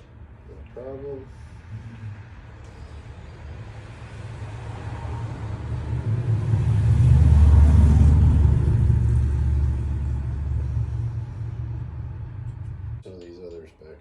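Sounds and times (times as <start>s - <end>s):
deep low rumble: 1.6s - 13.0s.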